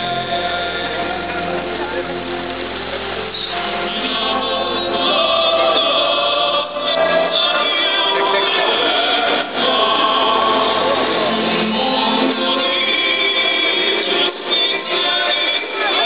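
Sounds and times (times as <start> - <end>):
choral singing: 0.0 - 1.9, 3.4 - 16.0
fountain show music: 0.0 - 16.0.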